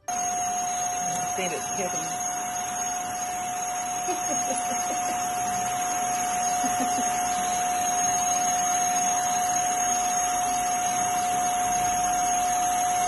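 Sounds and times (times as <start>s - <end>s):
vacuum cleaner humming and whining: 0.0s - 13.0s.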